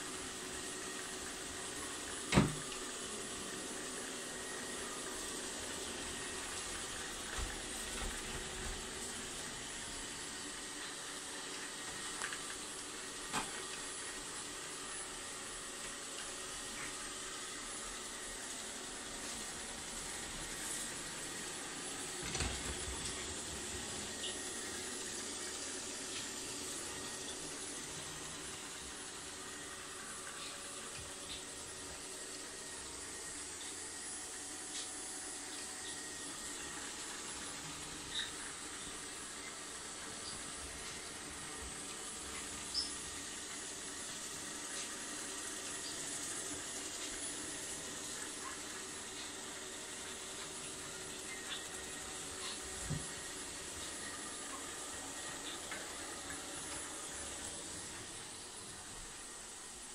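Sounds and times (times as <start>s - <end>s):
robot vacuum cleaner running: 0.0s - 59.9s.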